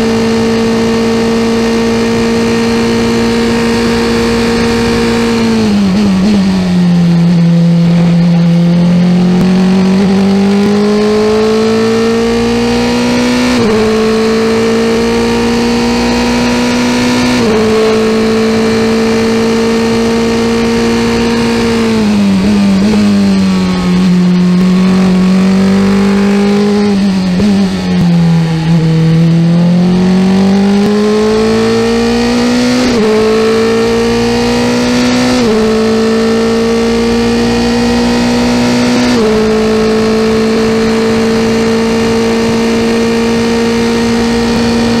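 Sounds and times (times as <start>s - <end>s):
race car engine accelerating: 0.0s - 45.0s.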